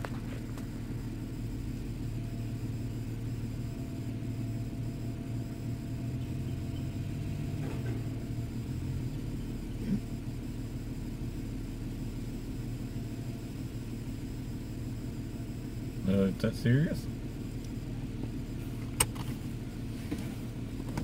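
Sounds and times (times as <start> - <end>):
engine rumbling at low revs: 0.0 - 21.0.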